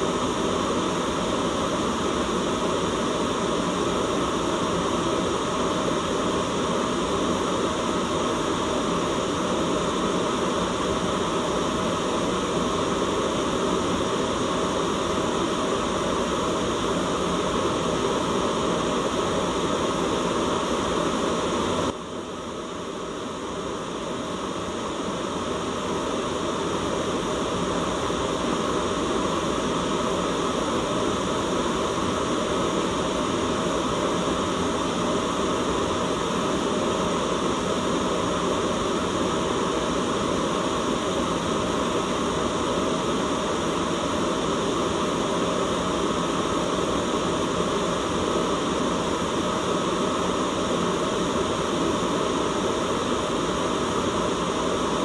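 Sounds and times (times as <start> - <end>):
low white noise: 0.0 - 55.0.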